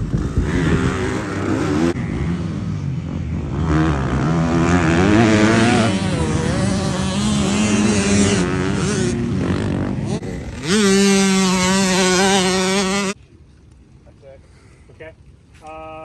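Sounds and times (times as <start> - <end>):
dirt bike engine revving: 0.0 - 13.2.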